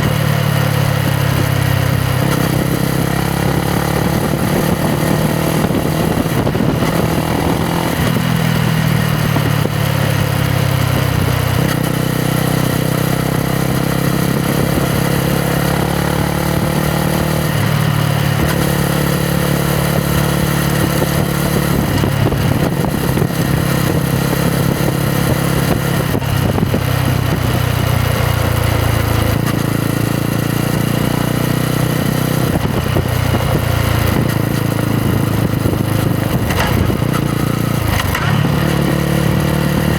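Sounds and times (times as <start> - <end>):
motorcycle engine running: 0.0 - 39.9
wind noise: 1.4 - 29.6, 32.1 - 39.9.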